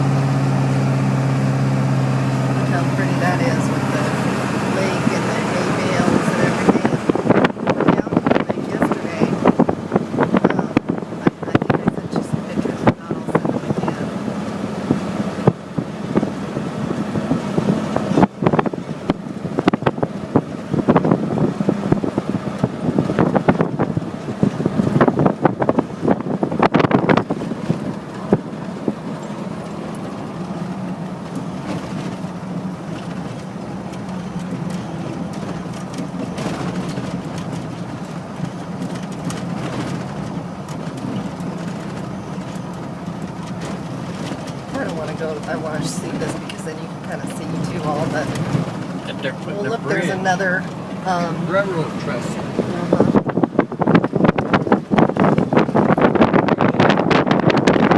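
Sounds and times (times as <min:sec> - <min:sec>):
car engine and road drone: 0:00.0 - 0:57.9
car knocks and jolts: 0:02.5 - 0:49.6, 0:50.5 - 0:57.9.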